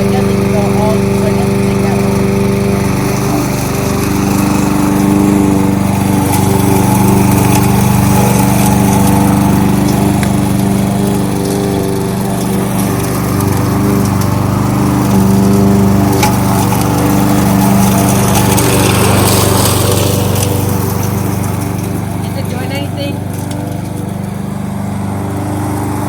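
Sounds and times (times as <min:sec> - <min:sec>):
lawnmower engine running: 0:00.0 - 0:26.0.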